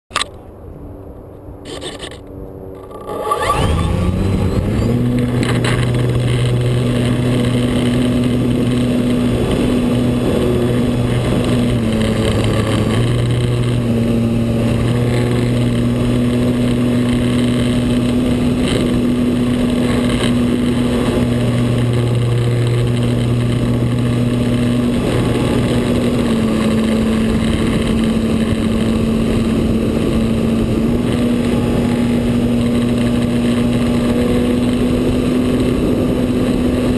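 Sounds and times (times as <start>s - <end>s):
model plane motor and propeller: 1.6s - 36.9s.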